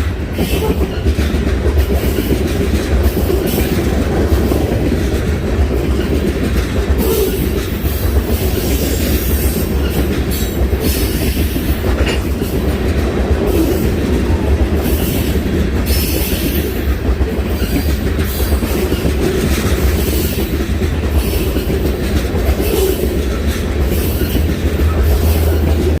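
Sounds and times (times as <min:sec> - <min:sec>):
train rumbling past: 0:00.0 - 0:26.0
wheels clicking over rail joints: 0:00.0 - 0:26.0.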